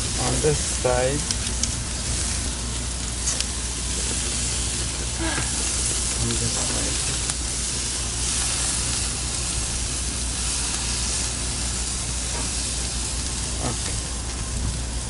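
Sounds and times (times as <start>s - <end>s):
low steady hum: 0.0s - 15.0s
meat sizzling on grill: 0.0s - 15.0s.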